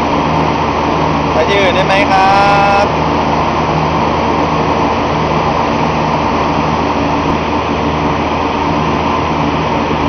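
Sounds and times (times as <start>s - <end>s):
boat motor running: 0.0s - 10.0s.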